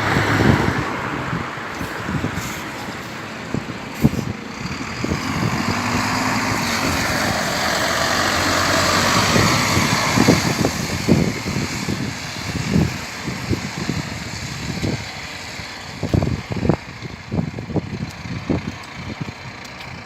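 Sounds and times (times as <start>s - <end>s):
road traffic noise: 0.0s - 20.0s
vehicle engine running: 0.0s - 20.0s.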